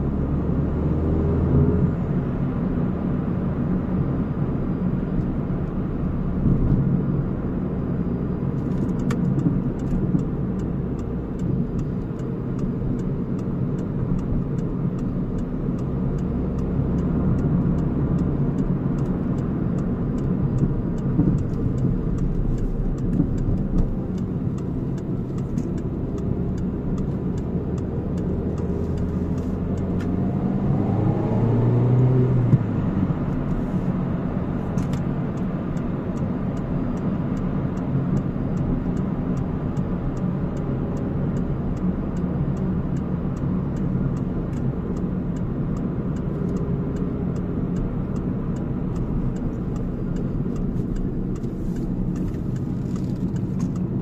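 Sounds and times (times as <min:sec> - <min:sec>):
car engine hum: 0:00.0 - 0:54.0
road noise: 0:00.0 - 0:54.0.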